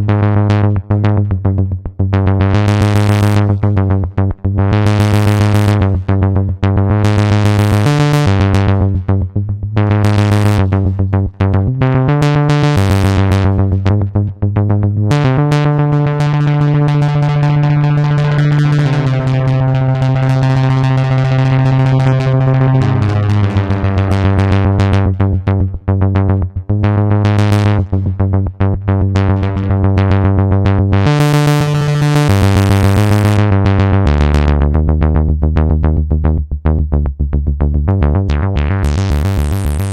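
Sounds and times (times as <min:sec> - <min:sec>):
synthesizer rhythmic sequence: 0:00.0 - 0:35.8, 0:37.7 - 0:39.9.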